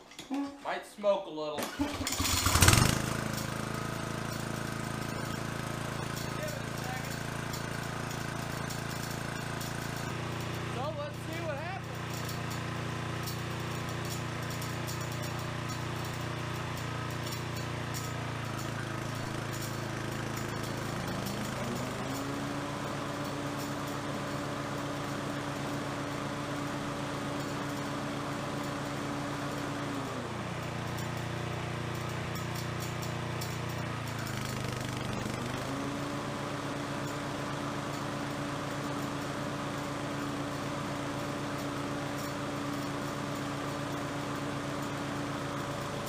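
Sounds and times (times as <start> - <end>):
lawn mower engine running: 1.6 - 46.0.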